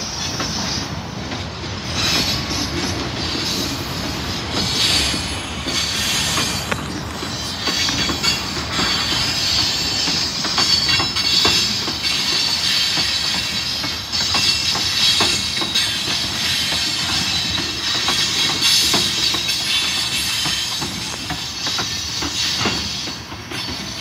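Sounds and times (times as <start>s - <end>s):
train rumble: 0.0s - 24.0s
train wheels clicking over rail joints: 0.0s - 24.0s
wheel-on-rail whine: 0.0s - 24.0s.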